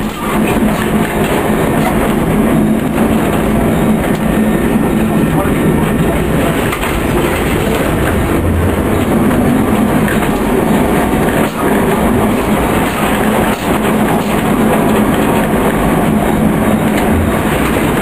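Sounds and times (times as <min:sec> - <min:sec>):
tram wheels on track: 0:00.0 - 0:18.0.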